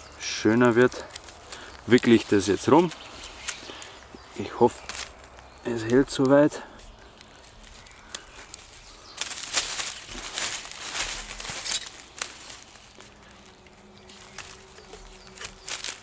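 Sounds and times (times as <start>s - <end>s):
cord rustling and rubbing on wood: 0.7s - 16.0s.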